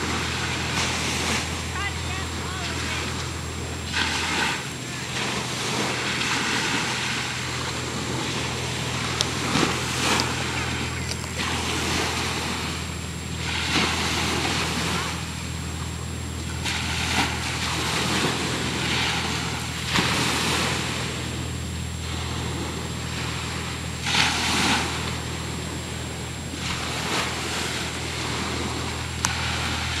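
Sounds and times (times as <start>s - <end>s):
motorboat engine humming: 0.0s - 30.0s
water splashing against hull: 0.0s - 30.0s.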